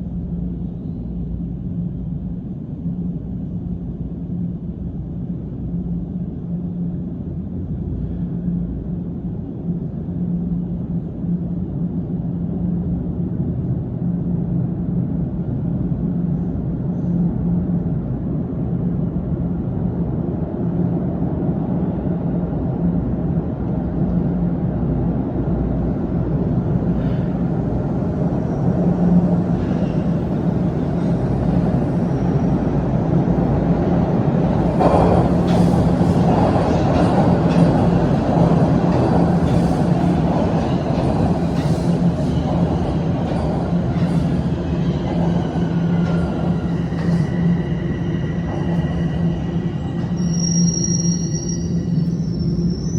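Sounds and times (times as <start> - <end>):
subway train rumbling: 0.0 - 52.9.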